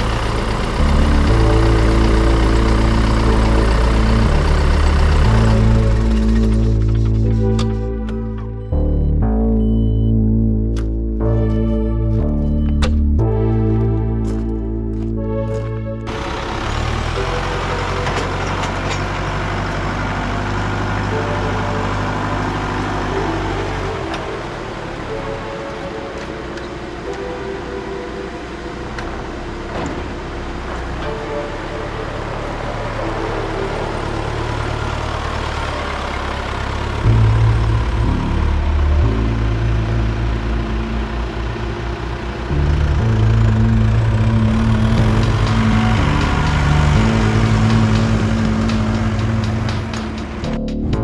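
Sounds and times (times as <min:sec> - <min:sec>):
heavy machine engine running: 0:00.0 - 0:51.0.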